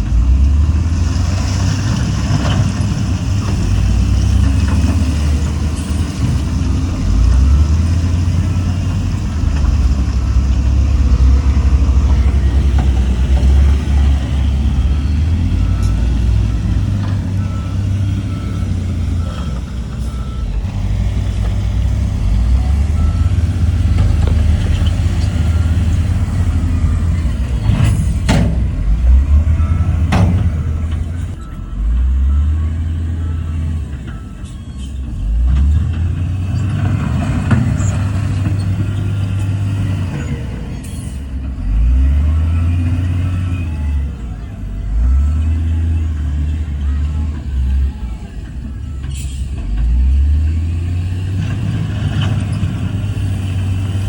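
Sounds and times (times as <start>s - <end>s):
heavy diesel machinery engines: 0.0s - 54.0s
reversing alarm beeping: 4.4s - 28.2s, 28.9s - 35.4s, 40.1s - 54.0s.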